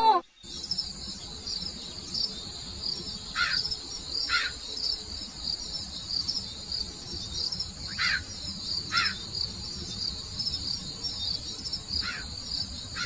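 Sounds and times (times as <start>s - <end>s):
crickets chirping: 0.1s - 13.0s.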